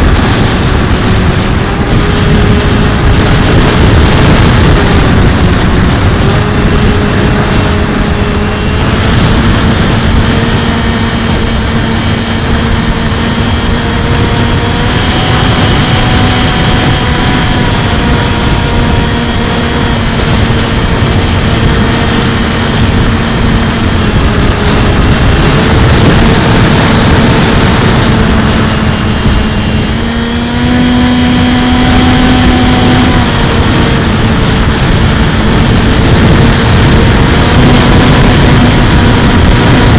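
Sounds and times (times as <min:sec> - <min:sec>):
electric motor and propeller whining: 0:00.0 - 0:39.9
wind buffeting microphone: 0:00.0 - 0:39.9.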